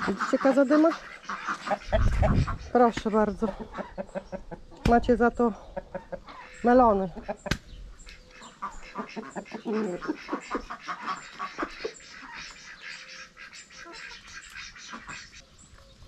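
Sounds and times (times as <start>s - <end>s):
ducks quacking: 0.0s - 15.4s
chickens clucking: 0.0s - 16.0s.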